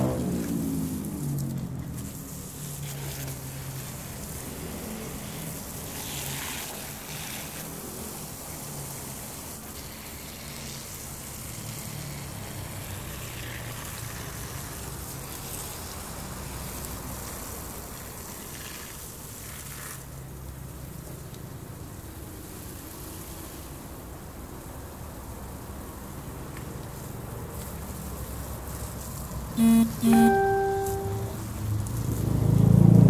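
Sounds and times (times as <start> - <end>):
hose water splashing on plants: 0.0 - 33.0.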